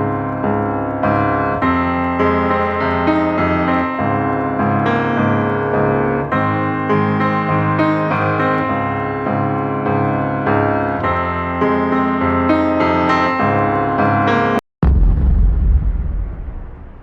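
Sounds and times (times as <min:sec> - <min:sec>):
background piano music: 0:00.0 - 0:14.6.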